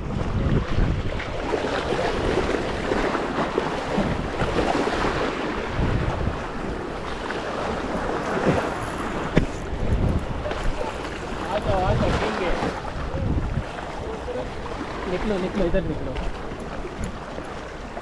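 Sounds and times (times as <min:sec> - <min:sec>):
sea water around boat: 0:00.0 - 0:18.0
wind on microphone: 0:00.0 - 0:18.0.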